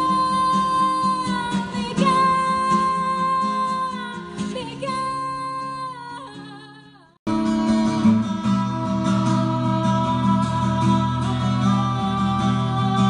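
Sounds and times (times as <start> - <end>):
strummed acoustic guitar: 0.0 - 13.0
woman singing: 0.0 - 13.0.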